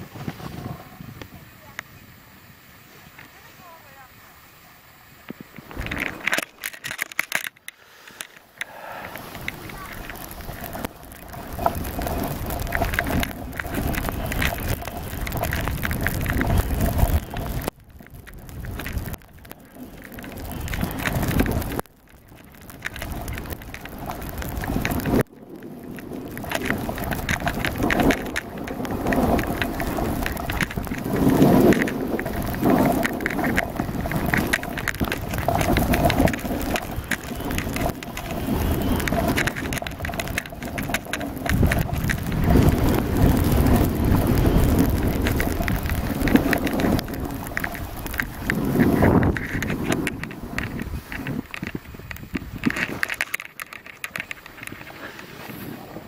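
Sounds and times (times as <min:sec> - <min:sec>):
wind on microphone: 0:00.0 - 0:02.3, 0:08.9 - 0:56.0
skis scraping on snow: 0:00.0 - 0:06.6, 0:07.8 - 0:56.0.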